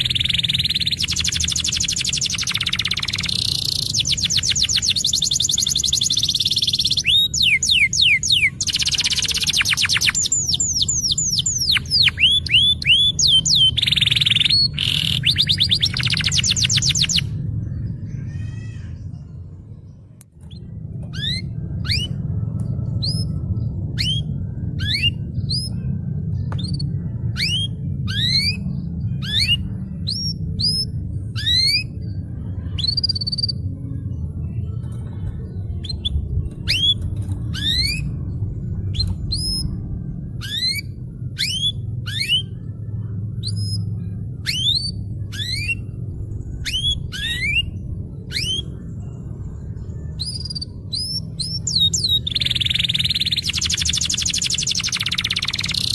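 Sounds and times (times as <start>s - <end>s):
canary singing trills: 0.0s - 55.9s
steady low hum: 0.0s - 55.9s.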